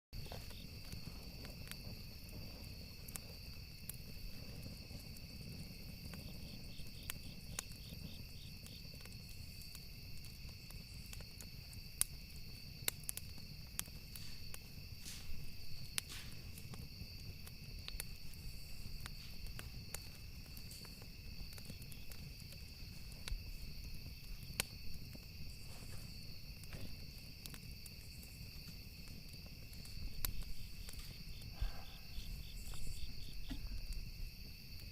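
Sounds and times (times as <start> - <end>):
burning wood crackling: 0.2 - 34.9
low rumble of flames: 0.2 - 34.9.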